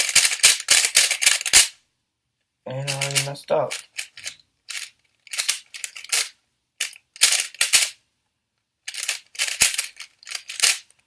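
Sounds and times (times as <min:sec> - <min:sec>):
plastic puzzle cube clicking: 0:00.0 - 0:01.8, 0:02.8 - 0:08.0, 0:08.8 - 0:11.0.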